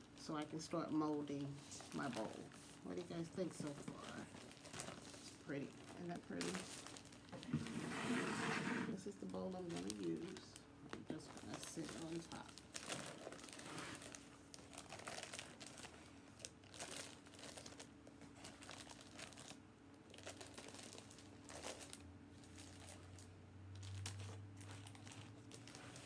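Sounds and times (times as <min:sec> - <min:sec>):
plastic sheeting crinkling: 0:00.0 - 0:26.0.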